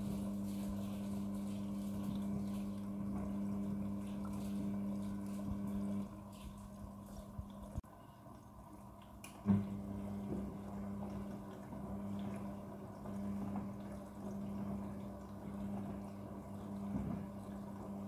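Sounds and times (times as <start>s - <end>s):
washing machine humming: 0.0s - 18.0s
water running in drum: 0.0s - 18.0s.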